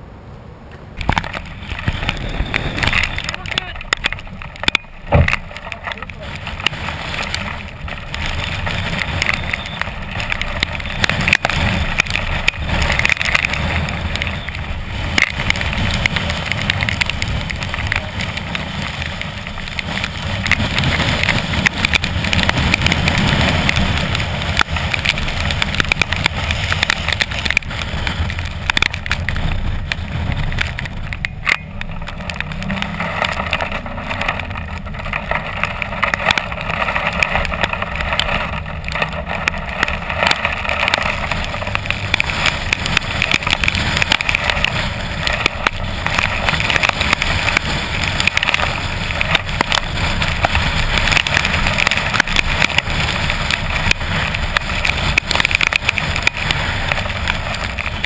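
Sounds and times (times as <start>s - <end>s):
wind buffeting microphone: 1.0s - 58.0s.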